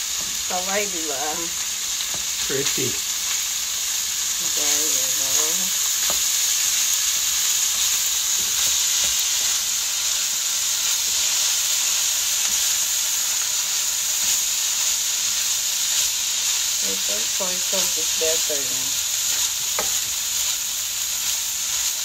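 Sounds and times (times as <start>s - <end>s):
fried rice sizzling in a wok: 0.0s - 22.0s.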